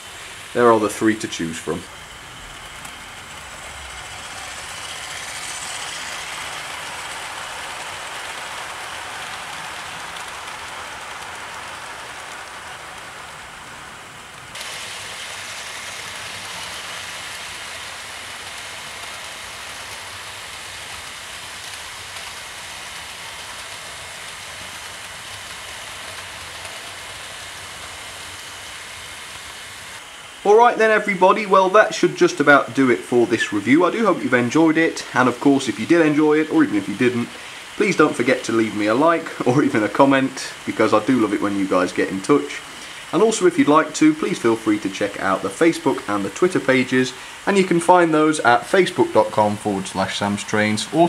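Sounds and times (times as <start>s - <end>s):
model train wheels on rail: 0.0s - 51.0s.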